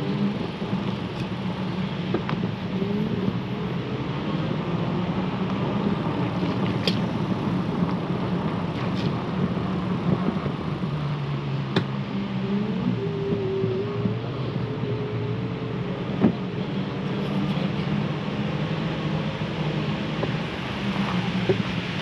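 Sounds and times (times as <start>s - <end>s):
electric bike riding hum: 0.0s - 22.0s.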